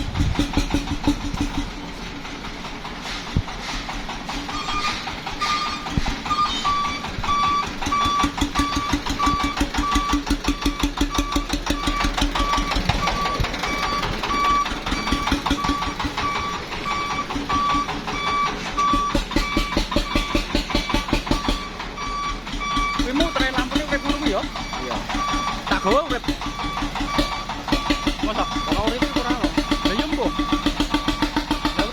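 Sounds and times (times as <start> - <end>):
truck engine chugging: 0.0 - 31.9
reversing alarm beeping: 4.3 - 31.9.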